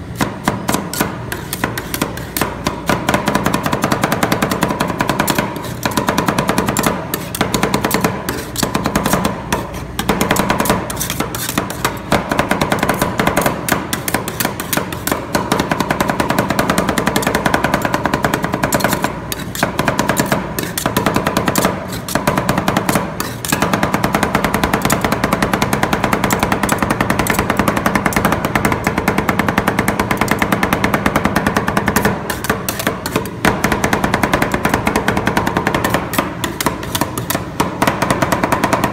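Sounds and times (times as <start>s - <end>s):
metal spatulas chopping on steel: 0.0s - 38.9s
steady hum: 0.0s - 38.9s.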